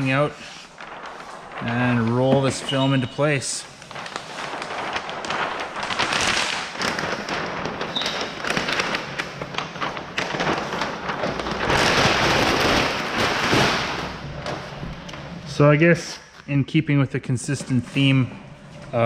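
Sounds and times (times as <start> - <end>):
plastic film peeling and crackling: 0.0 - 16.5.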